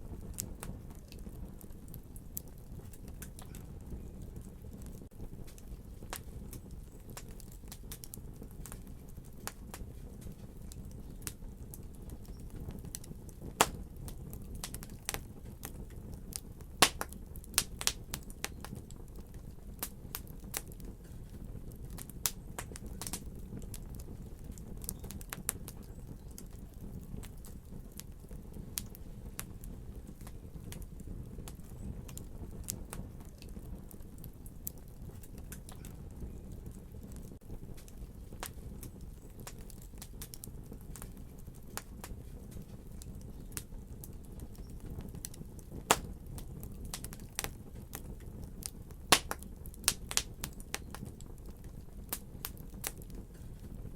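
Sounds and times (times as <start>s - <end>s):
fire crackling and popping: 0.0s - 53.9s.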